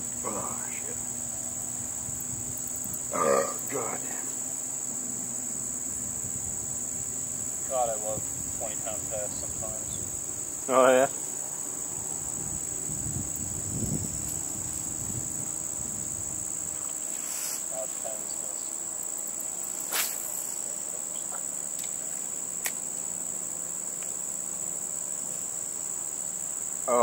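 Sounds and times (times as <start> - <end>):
insects chorus: 0.0 - 27.0.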